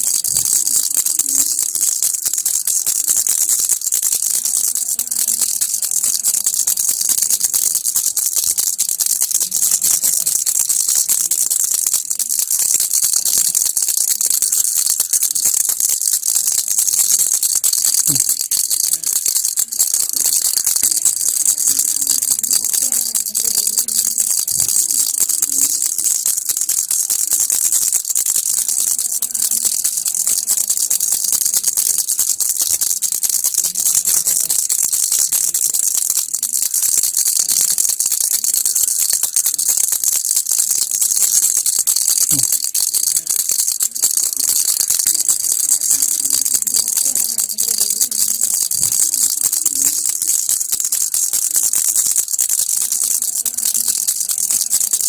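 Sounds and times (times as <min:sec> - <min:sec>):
baby rattle shaken: 0:00.0 - 0:55.0.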